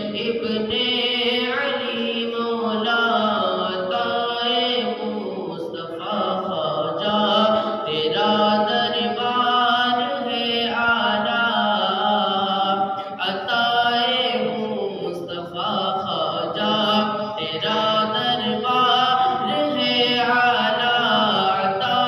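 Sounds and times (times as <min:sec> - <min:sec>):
man singing a cappella: 0:00.0 - 0:22.0.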